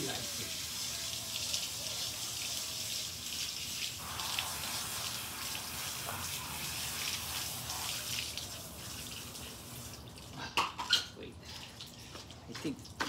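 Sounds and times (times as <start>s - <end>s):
hose water spraying and splattering: 0.0s - 10.6s.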